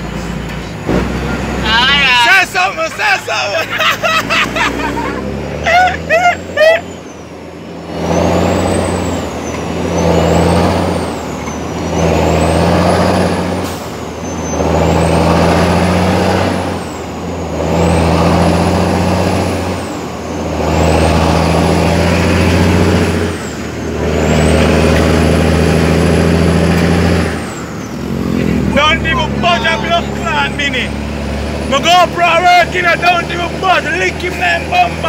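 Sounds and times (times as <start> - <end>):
truck diesel engine under load: 0.0 - 35.0.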